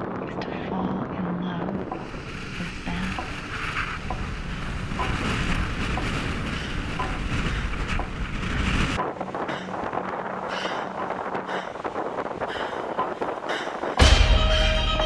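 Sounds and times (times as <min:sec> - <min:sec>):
wind buffeting microphone: 0:00.0 - 0:15.0
surf washing up beach: 0:02.0 - 0:14.0.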